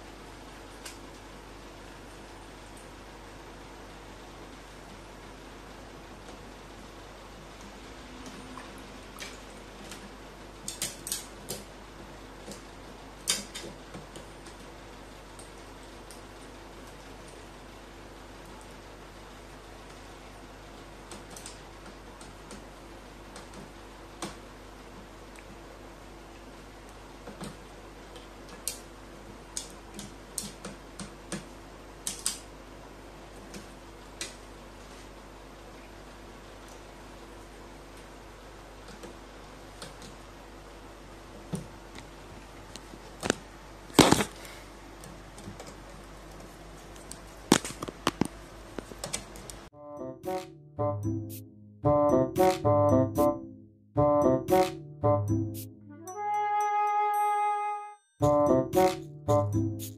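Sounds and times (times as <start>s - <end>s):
faint steady hum: 0.0s - 57.2s.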